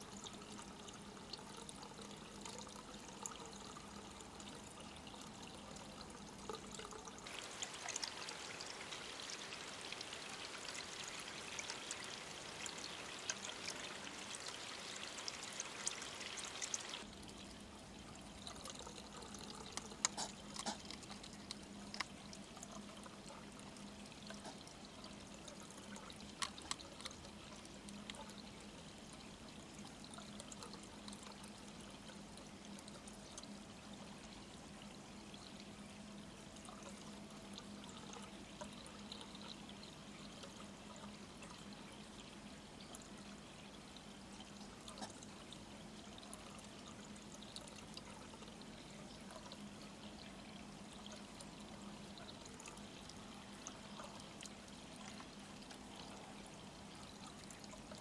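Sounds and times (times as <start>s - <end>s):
low steady hum: 0.0s - 58.0s
running water trickling: 0.0s - 58.0s.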